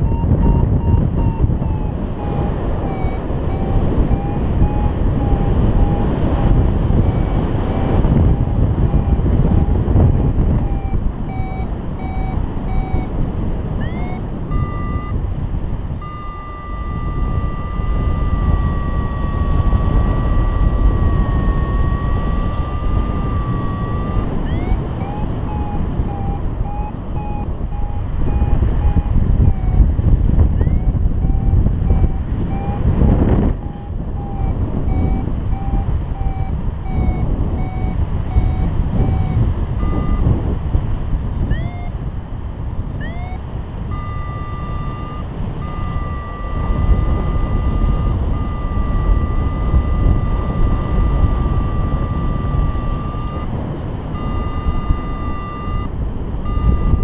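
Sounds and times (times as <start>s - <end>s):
variometer beeping: 0.0s - 57.0s
wind on microphone: 0.0s - 57.0s.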